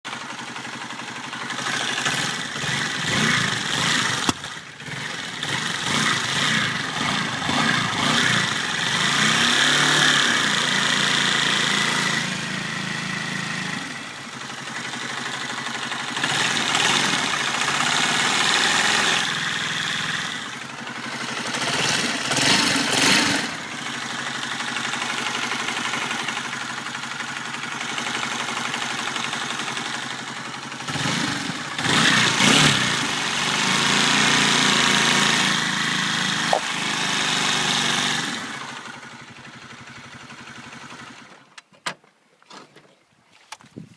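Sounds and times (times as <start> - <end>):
motorcycle engine revving: 0.1 - 41.5.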